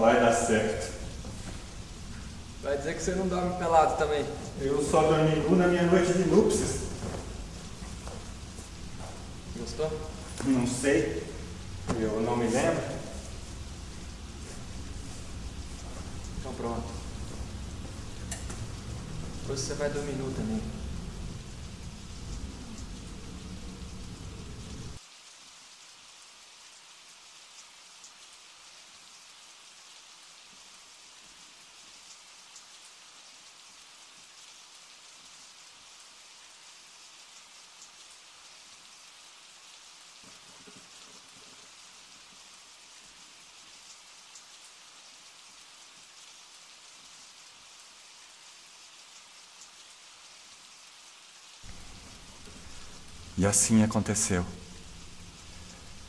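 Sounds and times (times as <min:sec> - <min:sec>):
raindrops pattering: 0:00.0 - 0:56.0
steady rain hiss: 0:00.0 - 0:56.0.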